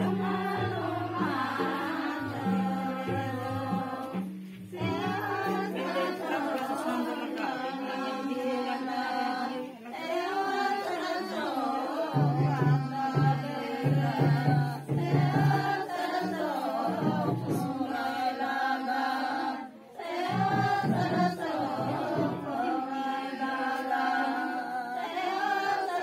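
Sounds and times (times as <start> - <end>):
voices singing a folk song: 0.0 - 26.0.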